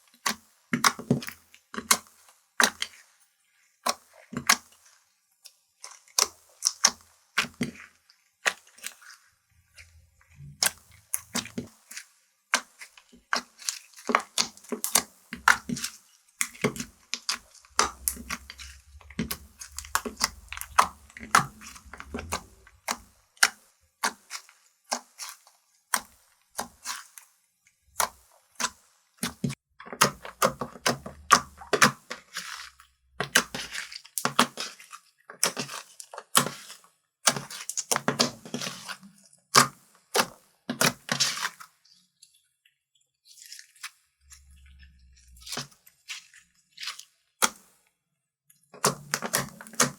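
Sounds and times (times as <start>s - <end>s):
slime squishing with pops: 0.1s - 3.0s, 3.8s - 4.9s, 5.8s - 9.2s, 9.8s - 27.3s, 27.9s - 41.9s, 43.3s - 47.8s, 48.7s - 49.9s.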